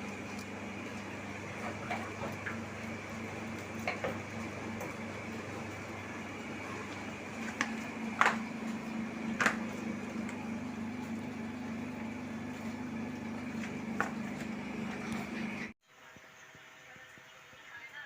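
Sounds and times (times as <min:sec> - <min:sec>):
appliance humming: 0:00.0 - 0:15.8.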